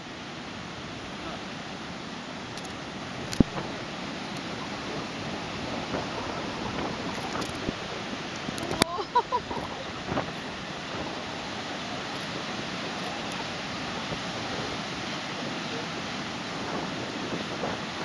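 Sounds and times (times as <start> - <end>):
surf: 0.0 - 18.0
wind: 0.0 - 18.0.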